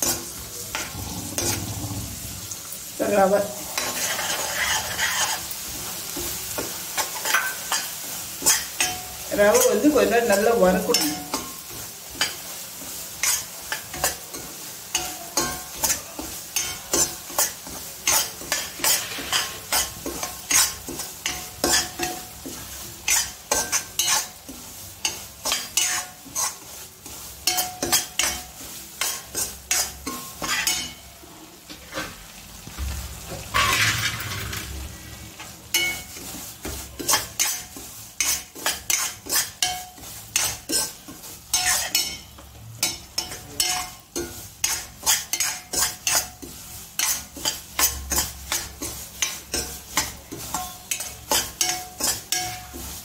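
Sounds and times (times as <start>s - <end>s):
spatula scraping a steel pan: 0.0s - 2.3s, 3.7s - 5.6s, 7.0s - 9.8s, 13.2s - 31.0s, 33.5s - 34.7s, 35.7s - 53.0s
low sizzle: 0.0s - 53.0s.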